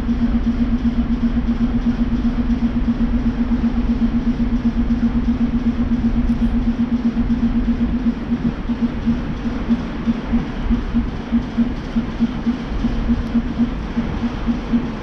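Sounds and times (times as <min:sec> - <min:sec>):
pulsing train hum: 0:00.0 - 0:15.0.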